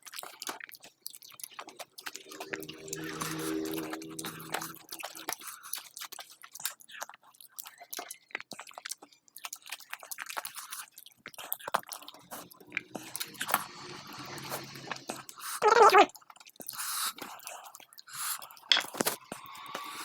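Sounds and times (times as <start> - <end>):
person chewing with wet mouth sounds: 0.0 - 20.0.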